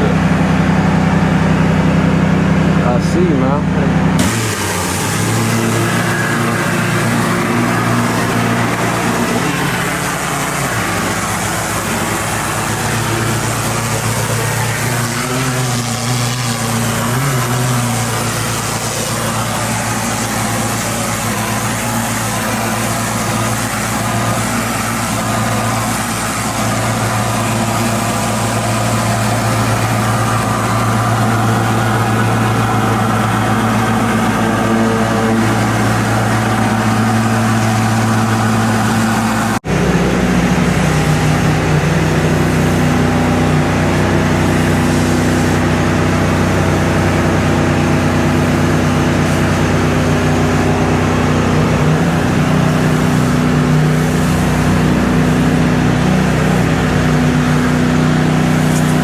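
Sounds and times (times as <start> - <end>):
pressure washer engine running: 0.0 - 59.0
water spraying on concrete: 0.0 - 59.0.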